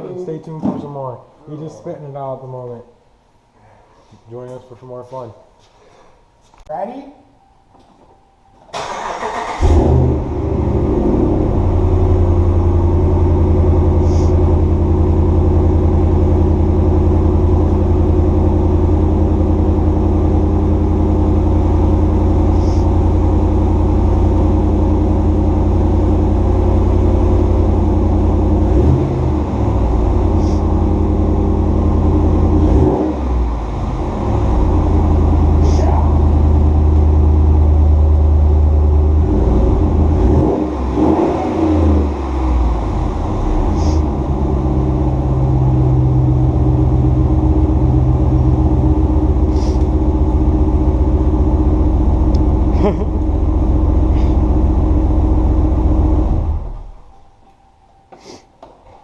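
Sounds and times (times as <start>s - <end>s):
engine starting and running: 8.7s - 57.4s.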